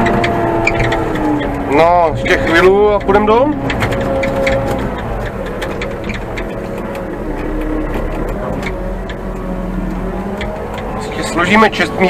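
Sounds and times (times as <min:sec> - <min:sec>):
diesel engine running: 0:00.0 - 0:12.0
light clicks and rattles: 0:00.0 - 0:12.0.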